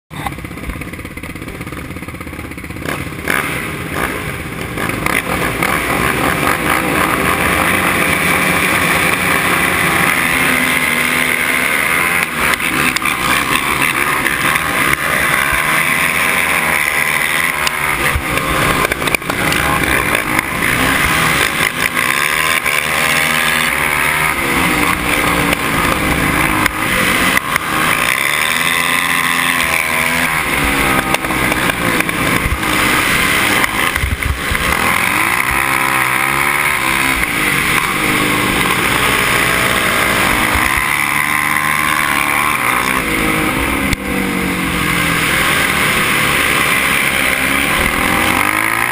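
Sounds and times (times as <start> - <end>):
other quad engines: 0.0 - 48.9
quad engine revving: 0.1 - 48.9.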